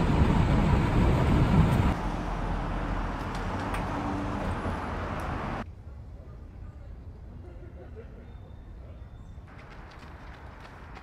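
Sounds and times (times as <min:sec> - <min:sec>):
traffic rumble and road noise: 0:00.0 - 0:11.0.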